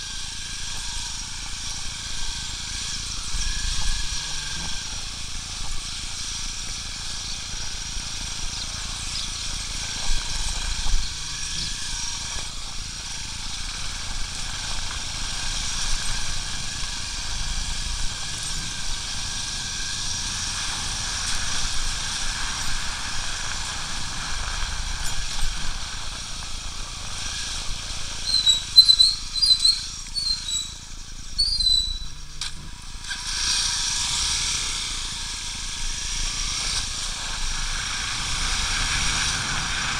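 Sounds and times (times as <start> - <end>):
motorcycle wind and road noise: 0.0 - 39.9.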